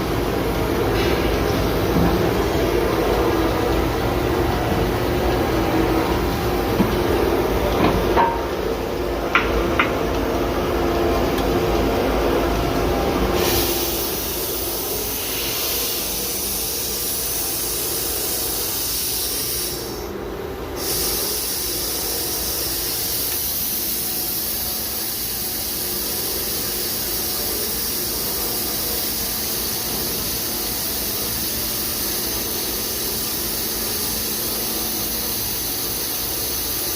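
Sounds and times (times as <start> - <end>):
high machine hiss: 0.0 - 36.9
machine hum: 0.0 - 36.9.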